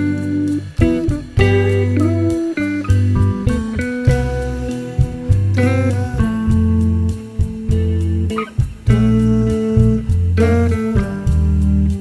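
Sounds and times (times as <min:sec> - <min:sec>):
plucked guitar music: 0:00.0 - 0:12.0
steady bass pulse: 0:00.0 - 0:12.0.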